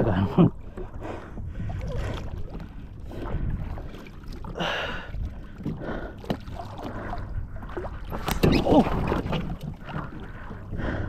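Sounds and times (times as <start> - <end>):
water sloshing against kayak: 0.0 - 11.0
wind rumble on microphone: 0.0 - 11.0.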